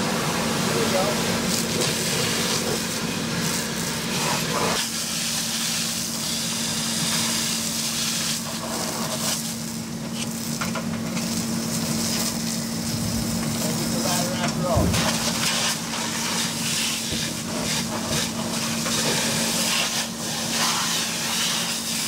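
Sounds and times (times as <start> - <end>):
constant mechanical hum: 0.0 - 22.0
hissing hose water and steam: 0.0 - 22.0.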